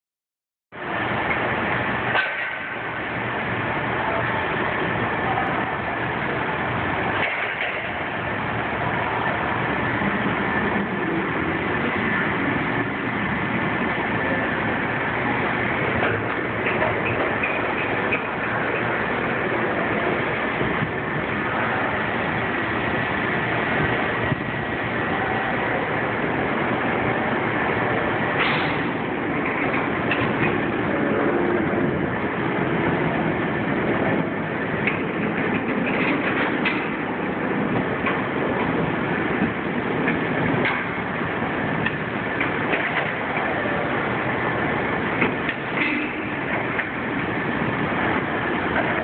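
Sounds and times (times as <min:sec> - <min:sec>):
forklift engine running: 0:00.8 - 0:49.0.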